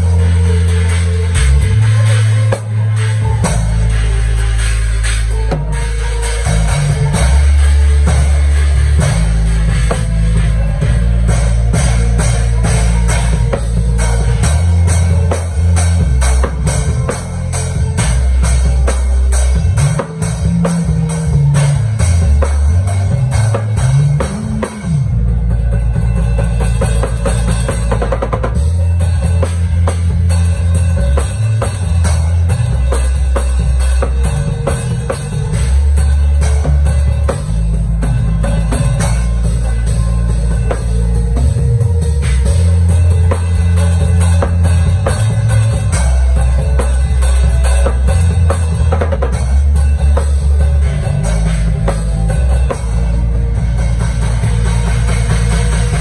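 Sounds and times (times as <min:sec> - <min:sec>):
drum kit groove: 0:00.0 - 0:56.0
stepping bass line: 0:00.0 - 0:56.0.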